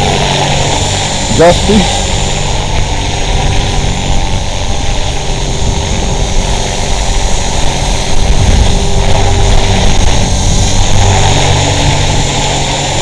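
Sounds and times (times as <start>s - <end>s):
rc helicopter whine: 0.0s - 13.0s
wind rumbling on microphone: 0.0s - 13.0s.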